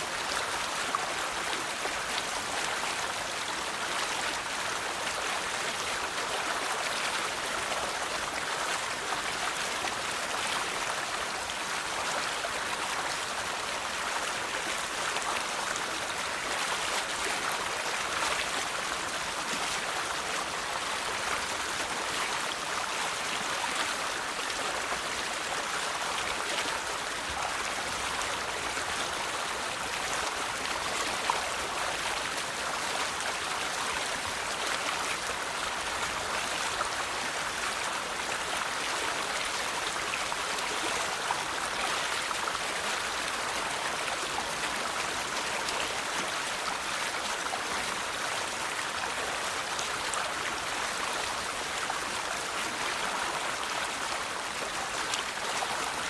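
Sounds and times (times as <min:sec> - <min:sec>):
river flowing over stones: 0:00.0 - 0:56.0.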